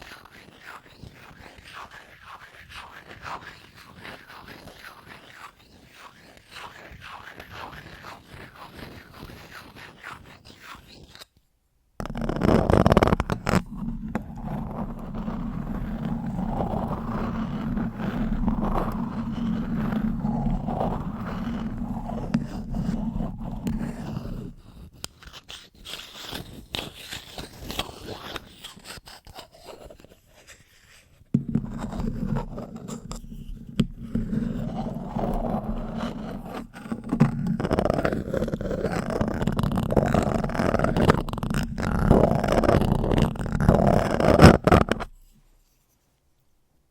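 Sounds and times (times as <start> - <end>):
spoon scraping on microphone: 0.0 - 11.3, 12.0 - 30.7, 31.4 - 46.0.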